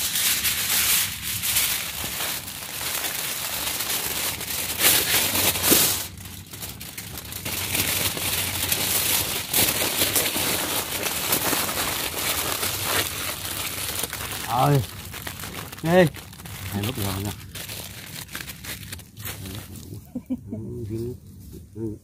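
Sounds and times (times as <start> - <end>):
cooking fire crackling: 0.0 - 20.2.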